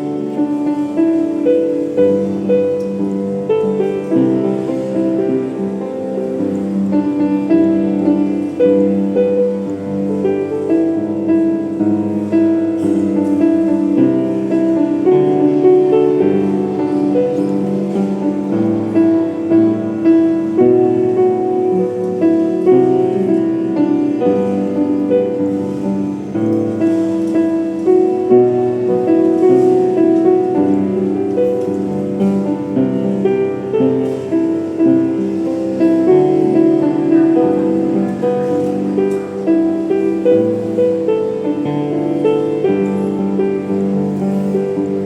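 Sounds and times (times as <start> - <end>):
solo piano melody: 0.0 - 45.0.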